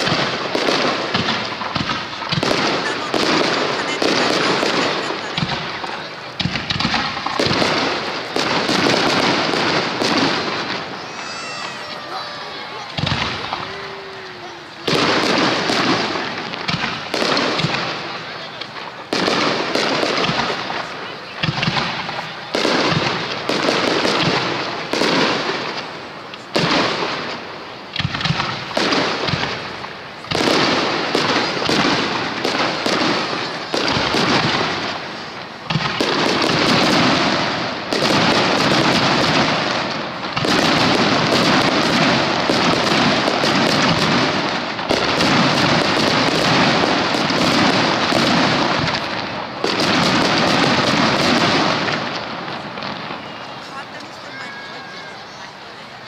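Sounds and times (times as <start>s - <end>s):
fireworks bursting: 0.0s - 56.0s.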